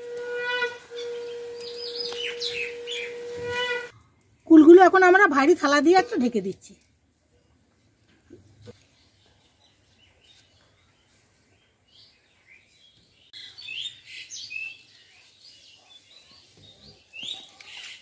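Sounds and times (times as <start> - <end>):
small birds chirping: 0.9 - 4.5, 6.6 - 18.0.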